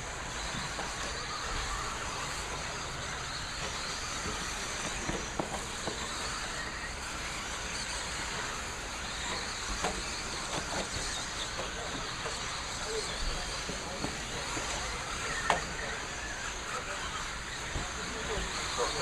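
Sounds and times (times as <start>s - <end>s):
toy car motor whine: 0.0s - 19.0s.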